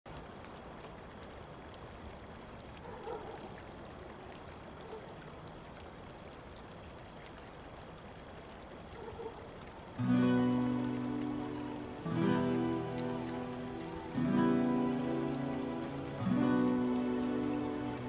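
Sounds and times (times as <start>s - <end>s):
faint steady hiss: 0.1s - 18.0s.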